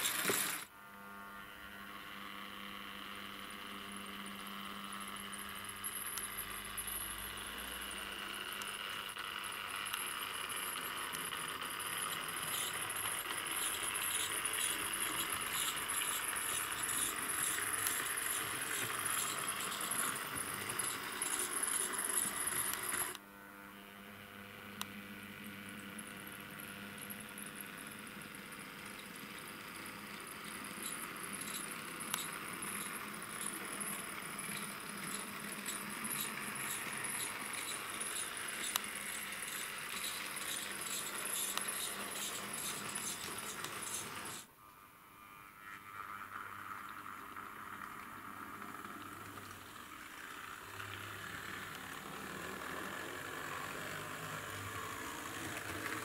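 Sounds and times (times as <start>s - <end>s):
small electric motors whirring: 0.0s - 56.0s.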